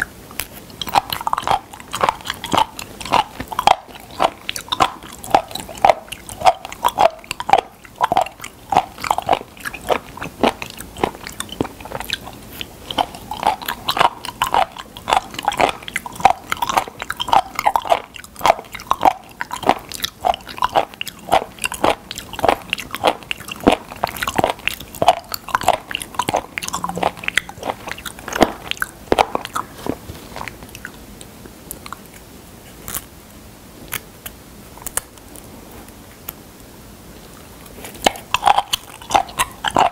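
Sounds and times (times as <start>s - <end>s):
crunchy chewing: 0.0s - 33.1s, 33.8s - 36.4s, 37.2s - 39.9s.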